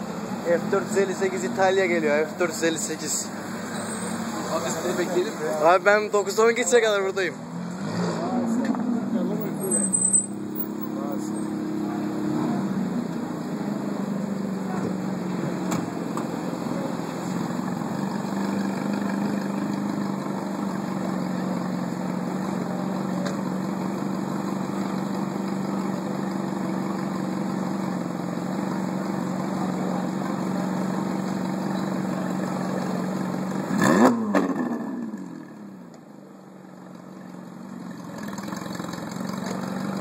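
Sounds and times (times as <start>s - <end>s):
car engine idling: 0.0s - 7.7s, 8.3s - 33.9s, 34.9s - 40.0s
car engine revving: 0.2s - 35.8s.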